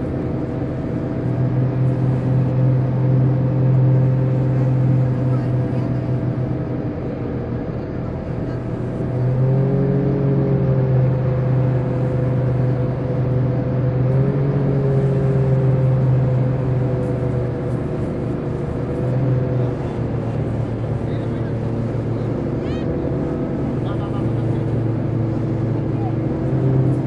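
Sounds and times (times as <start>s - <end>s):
hovercraft engine hum and whine: 0.0s - 27.0s.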